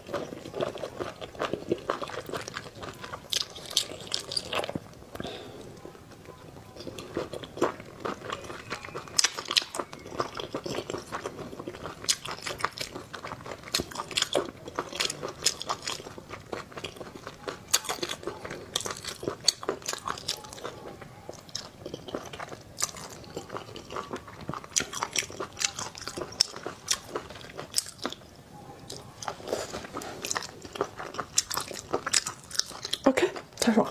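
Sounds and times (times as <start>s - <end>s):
close chewing and biting: 0.0s - 33.9s.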